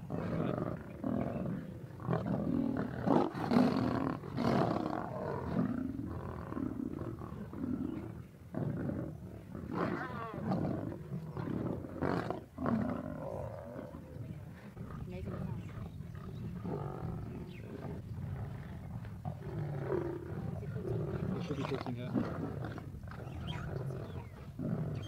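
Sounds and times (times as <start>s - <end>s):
lions growling and snarling: 0.0s - 25.0s.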